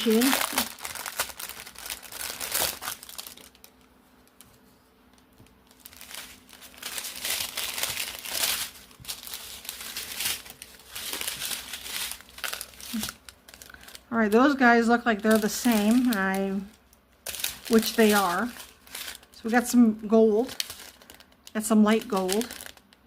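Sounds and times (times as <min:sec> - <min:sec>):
plastic packets crinkling: 0:00.0 - 0:04.6, 0:05.3 - 0:23.0.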